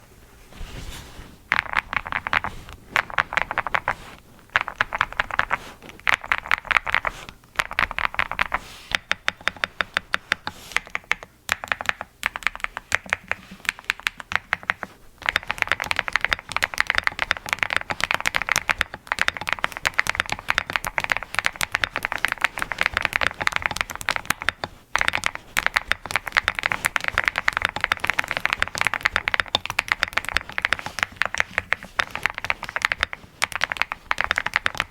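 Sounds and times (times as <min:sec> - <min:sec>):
mechanical keyboard typing: 0:01.5 - 0:34.9.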